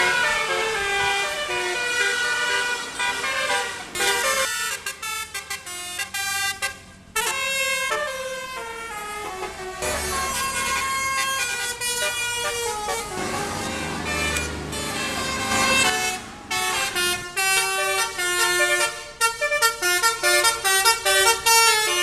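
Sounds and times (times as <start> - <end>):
trumpet horns playing a tune: 0.0 - 22.0.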